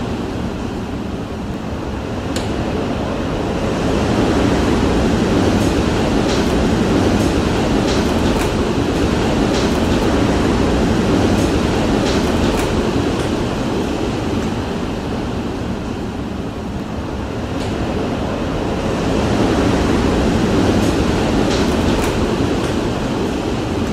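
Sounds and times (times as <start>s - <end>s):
gusting wind rumble: 0.0s - 23.9s.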